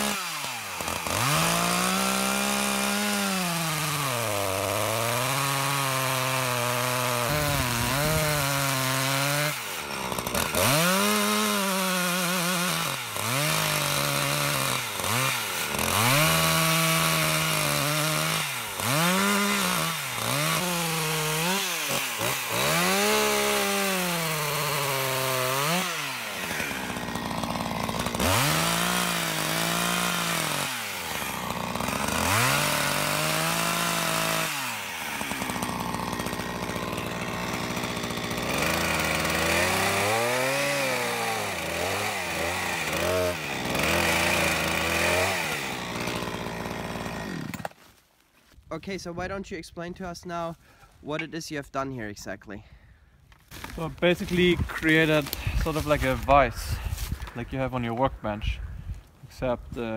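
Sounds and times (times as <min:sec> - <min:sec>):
chainsaw cutting wood revving: 0:00.0 - 0:47.8, 0:53.5 - 0:58.6.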